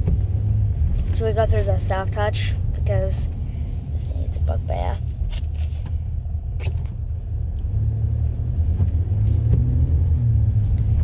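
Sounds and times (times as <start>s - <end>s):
car road rumble on wet road: 0.0s - 11.0s.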